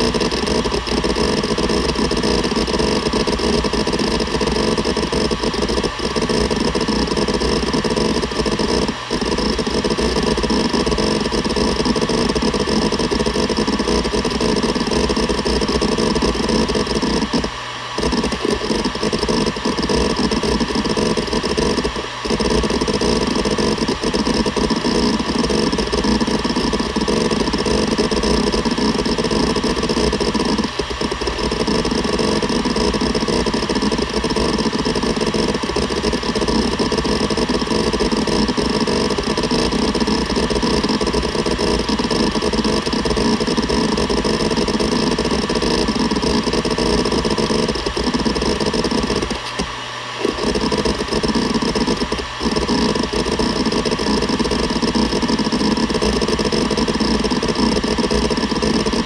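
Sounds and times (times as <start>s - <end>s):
hard drive head chatter: 0.0s - 59.0s
hard drive platters spinning: 0.0s - 59.0s.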